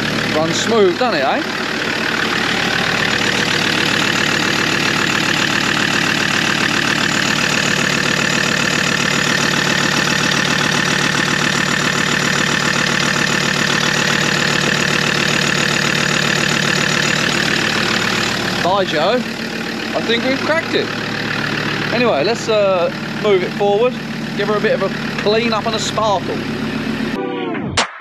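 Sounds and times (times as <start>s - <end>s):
car engine idling: 0.0s - 27.2s.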